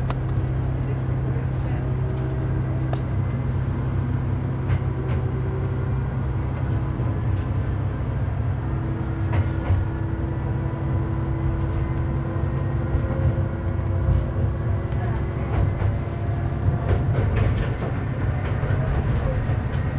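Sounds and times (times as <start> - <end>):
railcar engine drone: 0.0 - 19.9.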